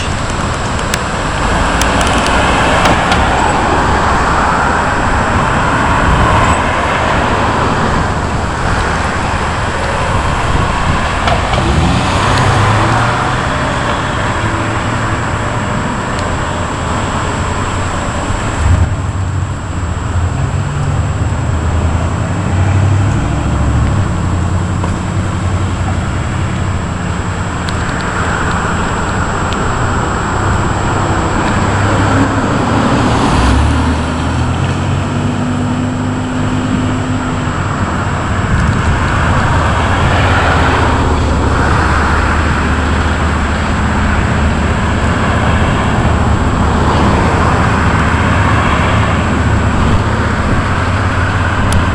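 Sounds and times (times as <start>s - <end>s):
low rumble of road traffic: 0.0s - 51.9s
vehicle engine hum: 0.0s - 51.9s
vehicles whooshing past: 0.0s - 51.9s.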